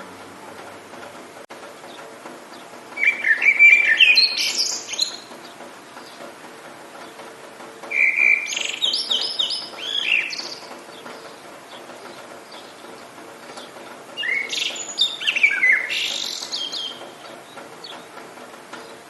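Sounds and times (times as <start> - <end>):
rain hiss: 0.0 - 19.0
songbird chirps and trills: 0.5 - 19.0.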